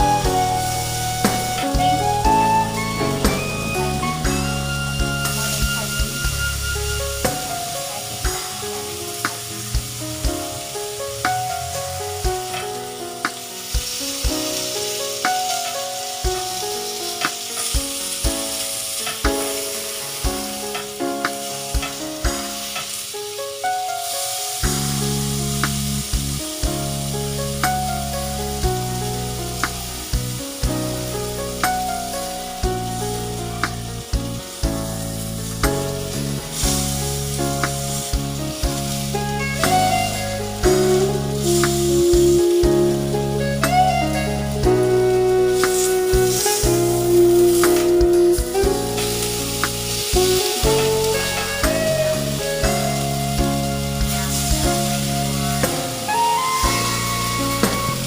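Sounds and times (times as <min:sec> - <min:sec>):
background music with steady beat: 0:00.0 - 0:58.0
food sizzling in a frying pan: 0:00.0 - 0:58.0.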